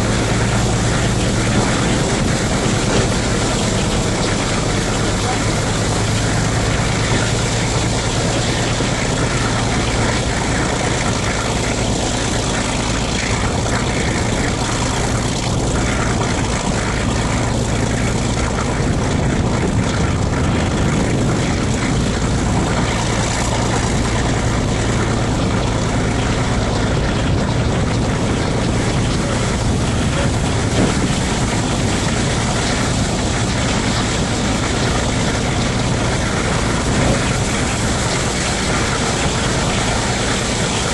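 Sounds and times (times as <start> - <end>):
locomotive engine drone: 0.0 - 40.9
train wheel noise: 0.0 - 40.9
wind rush: 0.0 - 40.9.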